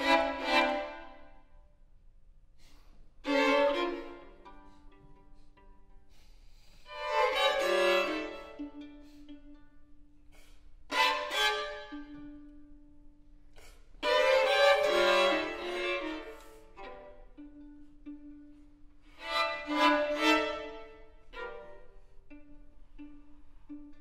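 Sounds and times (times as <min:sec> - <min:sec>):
violins playing: 0:00.0 - 0:01.9, 0:02.9 - 0:24.0.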